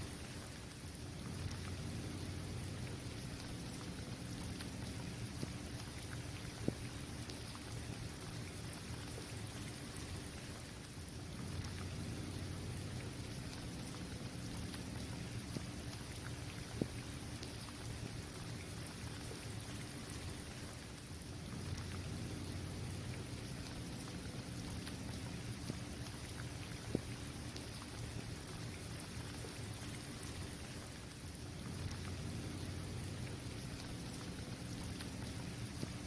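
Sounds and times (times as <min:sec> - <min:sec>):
rain on a hard surface: 0:00.0 - 0:36.0
sharp raindrop ticks: 0:00.0 - 0:36.0.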